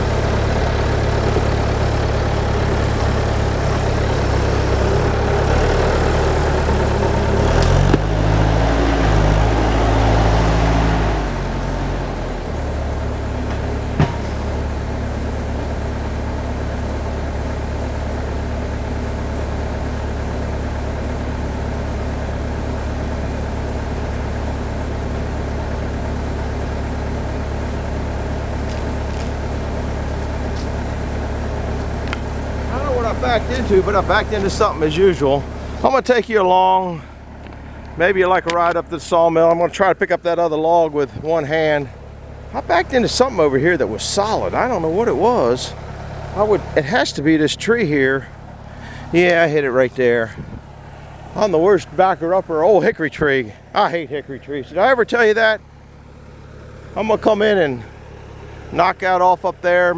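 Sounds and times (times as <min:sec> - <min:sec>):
machine engine running: 0:00.0 - 0:59.9.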